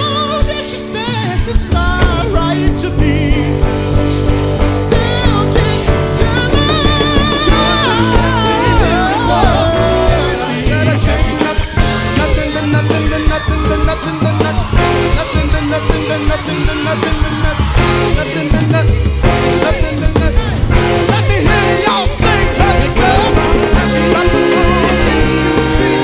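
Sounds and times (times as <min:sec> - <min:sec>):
live band music: 0:00.0 - 0:26.0.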